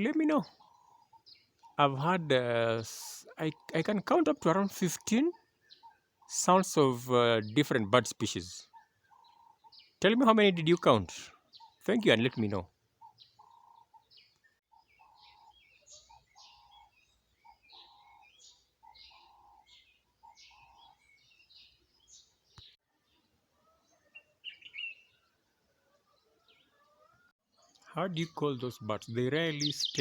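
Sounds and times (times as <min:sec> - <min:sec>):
birds chirping higher: 0:00.0 - 0:30.0.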